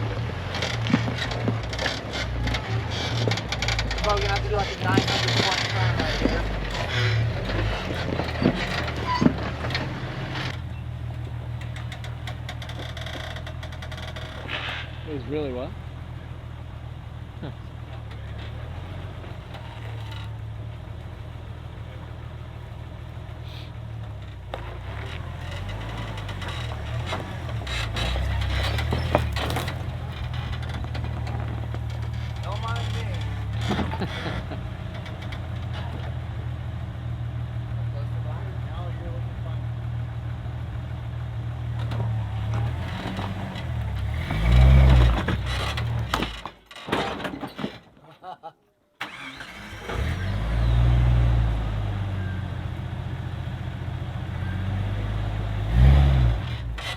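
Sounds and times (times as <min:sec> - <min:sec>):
car engine running at low speed: 0:00.0 - 0:46.6, 0:49.0 - 0:56.9.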